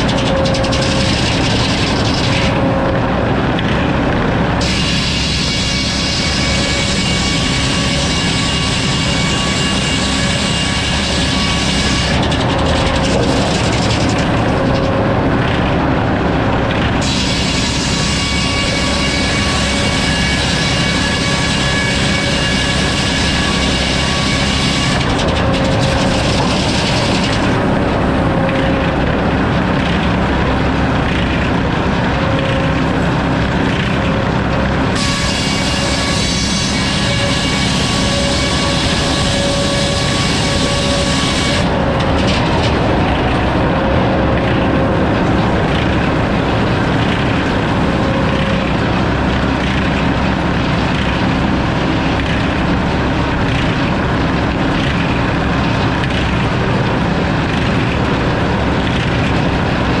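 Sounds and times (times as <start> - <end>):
sawmill saw whining: 0.0 - 60.0.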